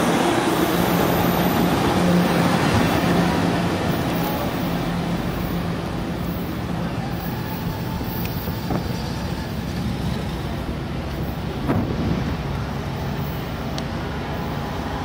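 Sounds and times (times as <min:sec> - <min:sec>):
diesel locomotive rumble: 0:00.0 - 0:15.0
train cars rolling on rails: 0:00.0 - 0:15.0.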